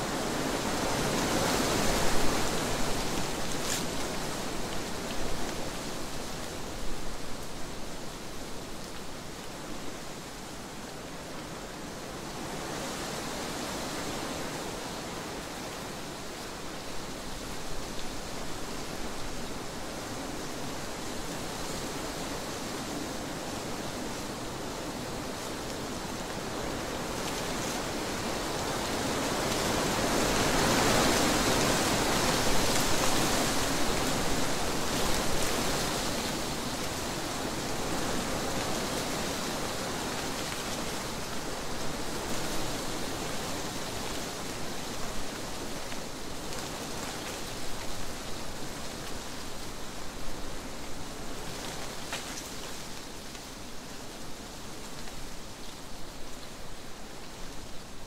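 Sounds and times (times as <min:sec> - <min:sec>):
wind blowing through trees: 0:00.0 - 0:58.0.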